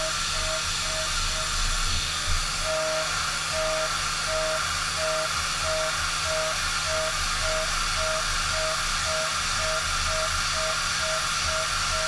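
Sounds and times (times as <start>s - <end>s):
pulsing milling cutter whine: 0.0s - 12.0s.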